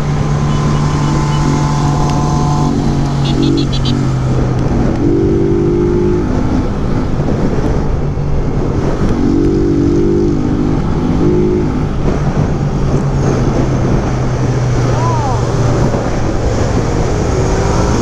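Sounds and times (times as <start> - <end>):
motorcycle engine at speed: 0.0 - 18.0
wind noise on microphone: 0.0 - 18.0.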